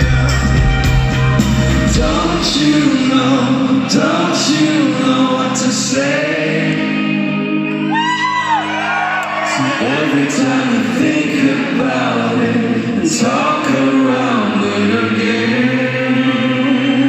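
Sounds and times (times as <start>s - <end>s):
man singing: 0.0s - 7.6s, 9.5s - 17.0s
live rock band: 0.0s - 14.9s.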